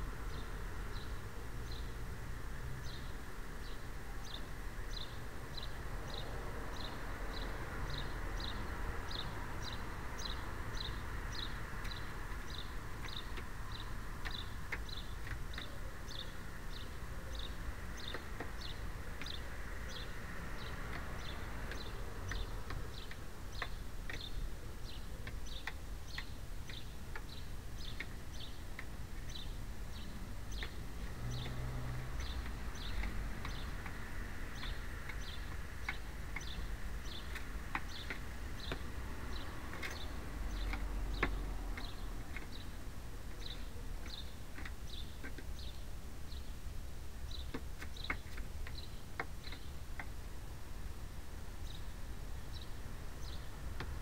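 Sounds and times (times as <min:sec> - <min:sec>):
sparrow chirping: 0:02.8 - 0:50.1, 0:51.6 - 0:53.6.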